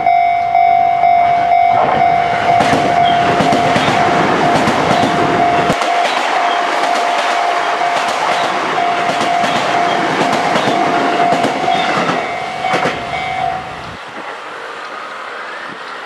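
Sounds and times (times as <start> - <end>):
level crossing warning bell: 0.0 - 14.0
train wheels clacking: 1.4 - 15.0.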